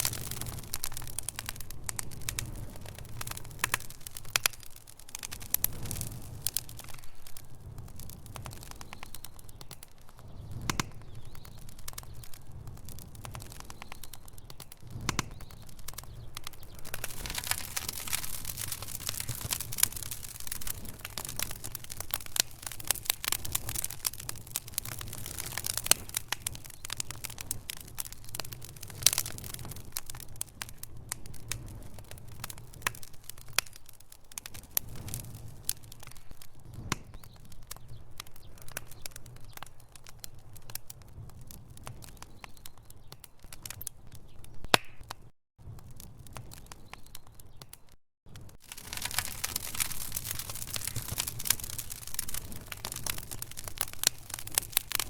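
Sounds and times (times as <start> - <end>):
fire pops: 0.0 - 55.0
low rumble of burning logs: 0.0 - 55.0
wood fire crackling: 0.0 - 55.0.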